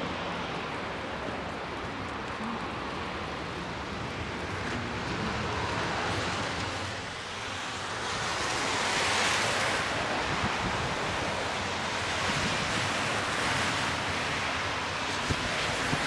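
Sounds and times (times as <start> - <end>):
tyres hissing on wet asphalt: 0.0 - 16.0.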